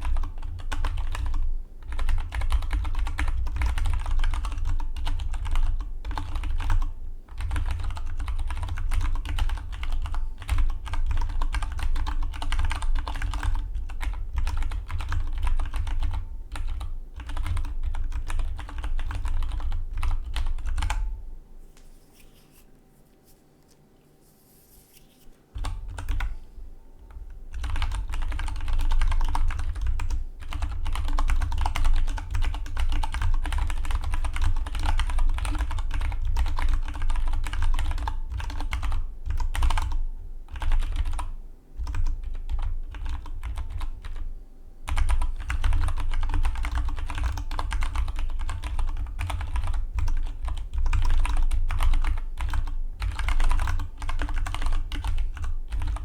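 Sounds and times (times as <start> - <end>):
mechanical keyboard typing: 0.0 - 21.0, 25.6 - 26.3, 27.5 - 44.2, 44.9 - 56.0.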